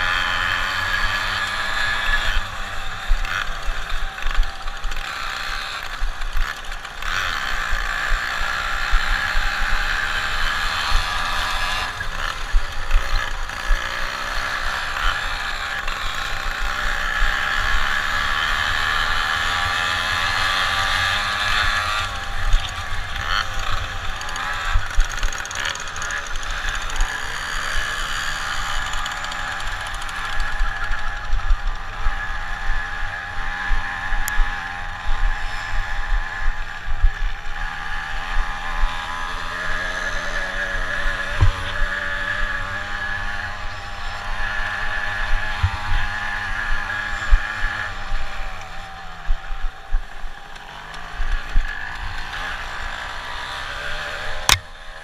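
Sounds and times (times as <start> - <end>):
moped engine running hard: 0.0 - 55.0.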